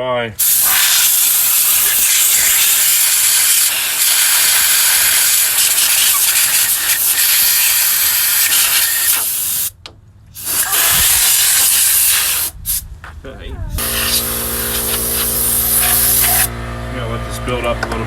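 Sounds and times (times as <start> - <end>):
air blow gun hissing: 0.4 - 9.8, 10.4 - 12.9, 13.8 - 16.5.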